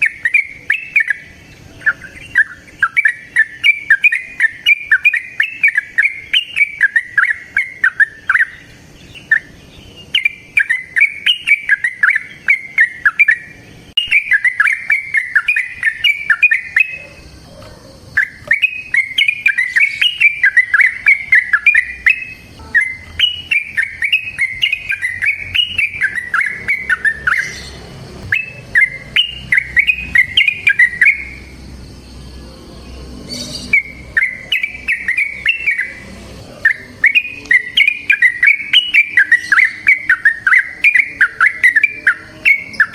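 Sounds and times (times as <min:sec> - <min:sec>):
bulbul singing bubbling song: 0:00.0 - 0:42.9.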